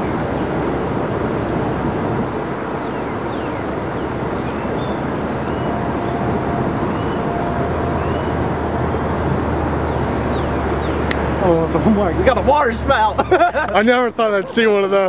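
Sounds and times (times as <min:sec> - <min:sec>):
wind on microphone: 0:00.0 - 0:12.7.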